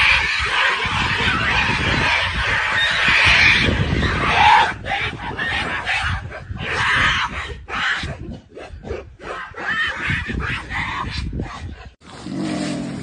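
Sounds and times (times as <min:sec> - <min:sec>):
gorillas roaring and calling: 0:00.0 - 0:11.4.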